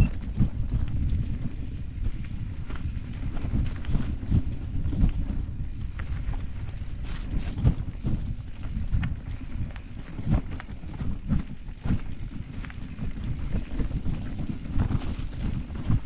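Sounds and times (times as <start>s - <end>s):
bike knocking and rattling: 0.0s - 16.0s
wind buffeting microphone: 0.0s - 16.0s.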